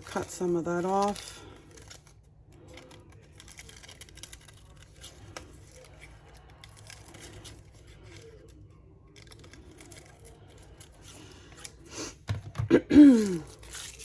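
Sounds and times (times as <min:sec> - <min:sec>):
scissors cutting paper: 0:00.0 - 0:11.9, 0:13.1 - 0:14.0.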